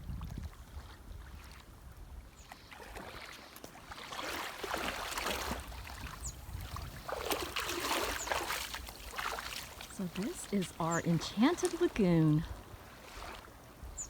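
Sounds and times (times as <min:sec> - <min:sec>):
water washing and splashing: 0:02.6 - 0:14.0.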